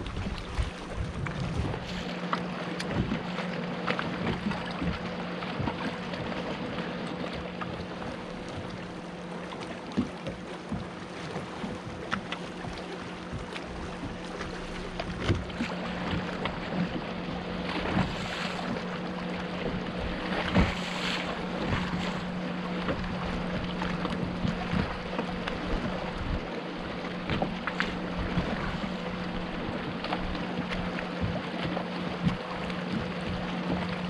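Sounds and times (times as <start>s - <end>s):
steady low hum: 0.0s - 34.0s
water noise: 0.0s - 34.0s
wind: 0.0s - 34.0s.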